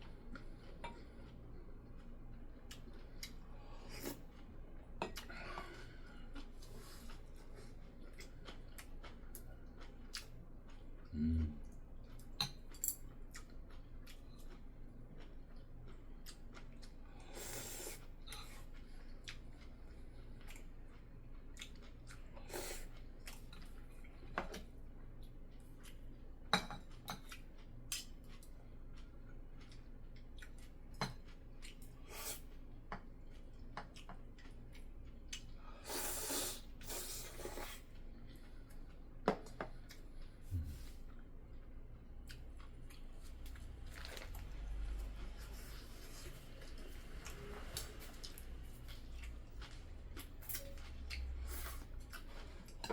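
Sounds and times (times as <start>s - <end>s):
chewing: 0.0s - 52.9s.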